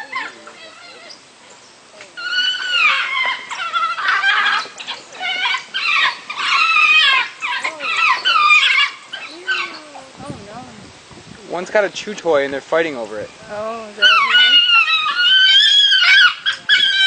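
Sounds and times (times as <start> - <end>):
wild dogs whining calls: 0.0 - 10.2, 13.2 - 17.0.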